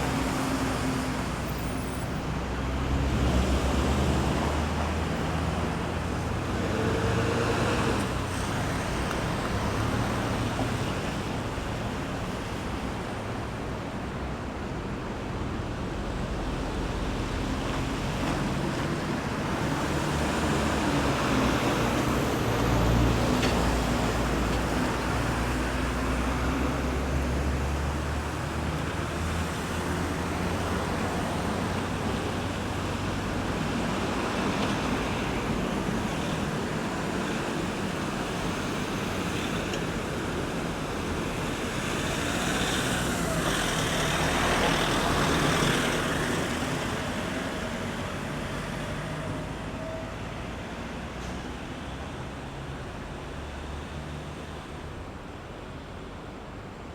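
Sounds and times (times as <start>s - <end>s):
road traffic noise: 0.0s - 56.9s.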